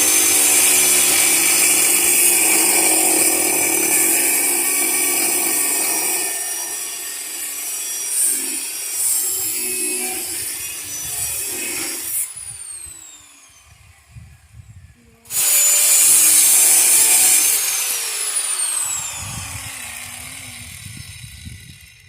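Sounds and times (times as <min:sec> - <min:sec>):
power tool cutting metal pin: 0:00.0 - 0:14.2, 0:15.3 - 0:22.0
motor winding down whine: 0:00.0 - 0:22.0.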